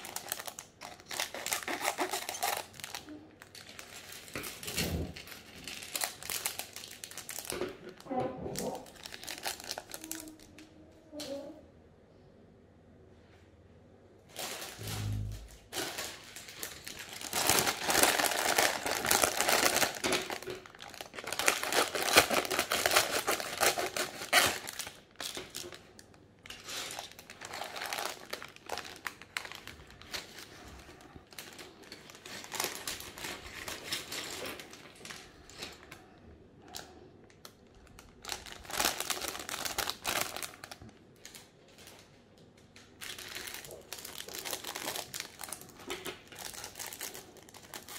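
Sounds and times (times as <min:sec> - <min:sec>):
plastic bag crinkling: 0:00.0 - 0:10.6, 0:14.3 - 0:42.2, 0:42.8 - 0:47.9.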